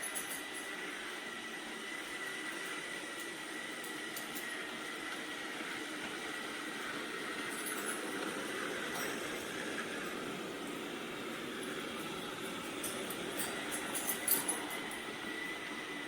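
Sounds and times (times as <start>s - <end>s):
robot vacuum fan whirring: 0.0s - 16.0s.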